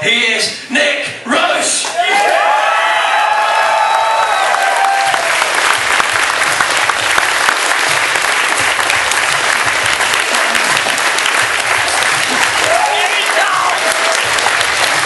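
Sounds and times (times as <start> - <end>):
audience applauding: 2.2 - 15.0.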